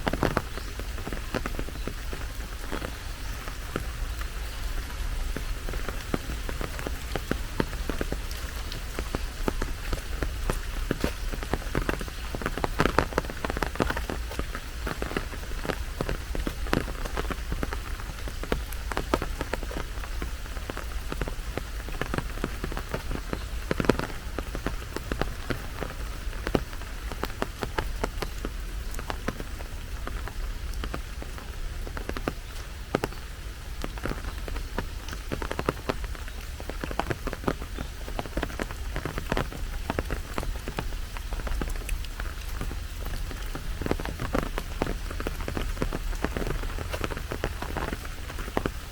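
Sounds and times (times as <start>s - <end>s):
close raindrop impacts: 0.0s - 48.9s
heavy rain falling: 0.0s - 48.9s.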